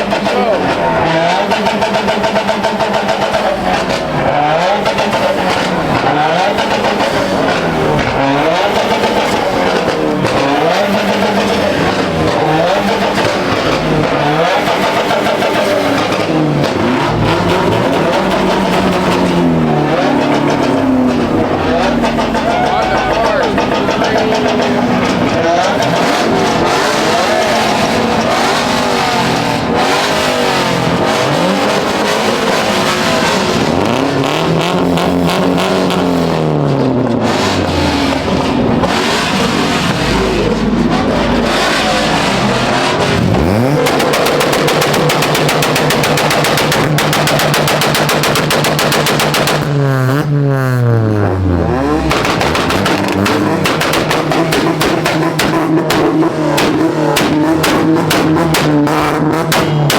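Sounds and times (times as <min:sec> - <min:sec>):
car engines revving: 0:00.0 - 0:59.9
engine stuttering crackle: 0:00.0 - 0:59.9.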